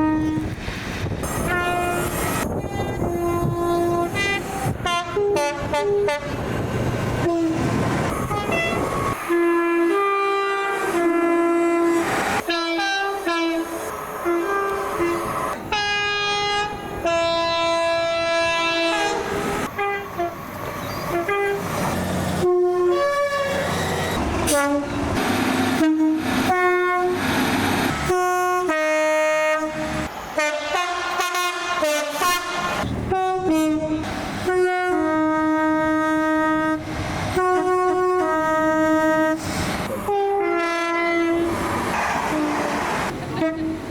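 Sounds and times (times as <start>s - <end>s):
train horns blasting: 0.0s - 0.6s, 1.2s - 43.9s
passing trains: 0.0s - 43.9s.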